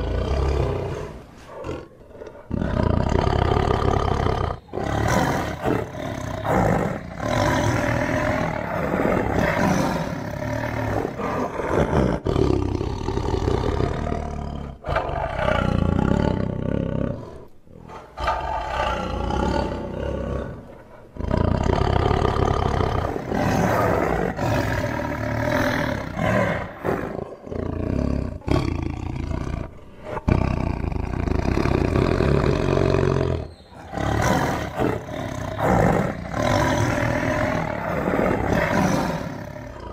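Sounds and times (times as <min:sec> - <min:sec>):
tiger roaring and growling: 0:00.0 - 0:39.9.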